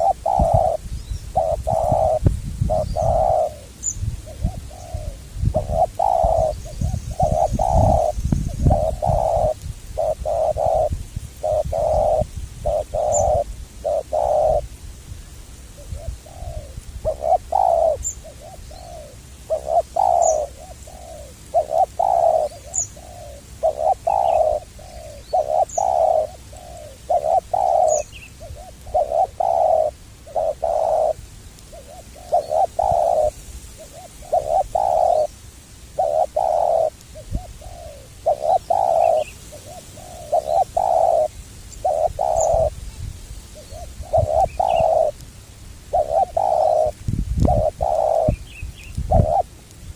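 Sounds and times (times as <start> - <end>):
doves cooing: 0.0 - 14.7, 15.7 - 35.4, 36.0 - 42.8, 43.4 - 45.2, 45.8 - 49.6
small birds chirping: 0.0 - 45.2, 45.9 - 49.5.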